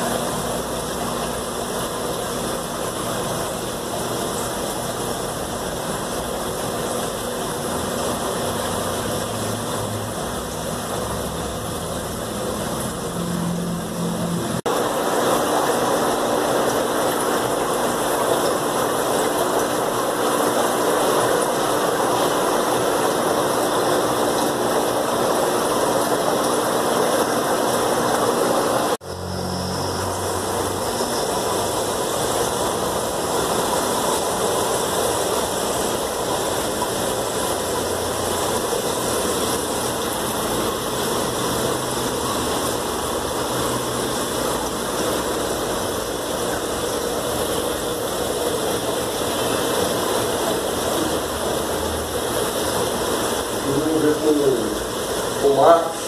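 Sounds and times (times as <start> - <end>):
aquarium air pumps humming: 0.0 - 56.0
bubbling water: 0.0 - 56.0.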